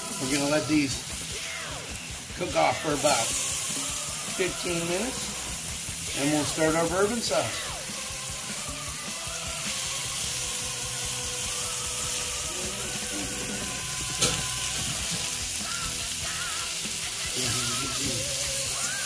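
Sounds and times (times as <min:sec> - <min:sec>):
background music: 0:00.0 - 0:19.0
mushrooms sizzling in oil: 0:00.0 - 0:19.0.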